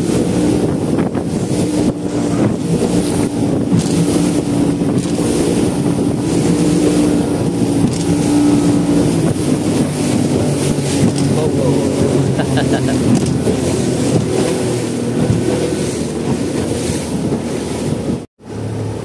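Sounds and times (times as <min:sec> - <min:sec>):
outboard motor running: 0:00.0 - 0:19.0
wind buffeting microphone: 0:00.0 - 0:19.0.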